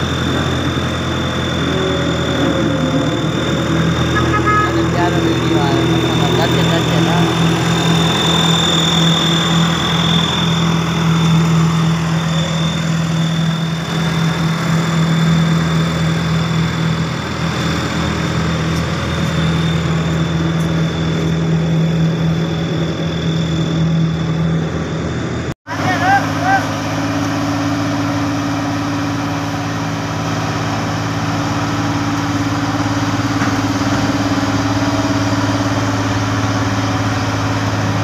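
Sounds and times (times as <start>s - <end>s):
road roller diesel engine humming: 0.0s - 38.0s.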